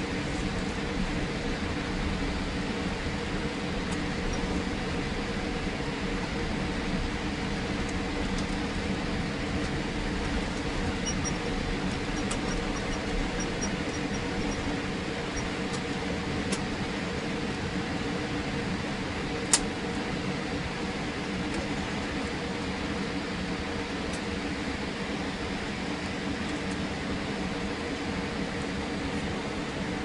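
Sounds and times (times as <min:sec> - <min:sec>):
engine and air-conditioning hum: 0:00.0 - 0:30.0.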